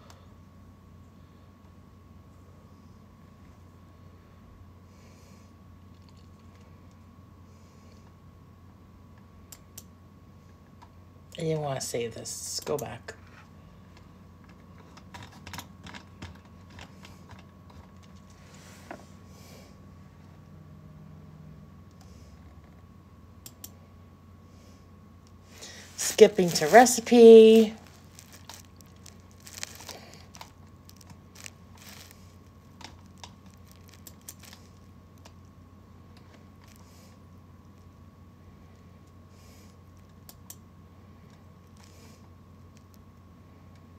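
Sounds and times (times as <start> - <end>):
faint electrical hum: 0.0 - 43.9.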